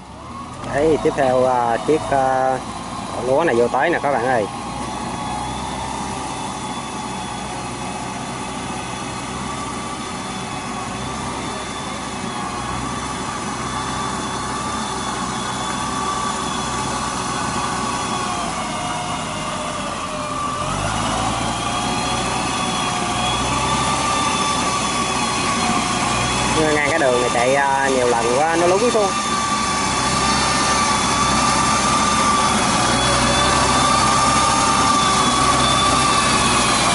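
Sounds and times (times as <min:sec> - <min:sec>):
tracked machine engine running: 0:00.0 - 0:36.9.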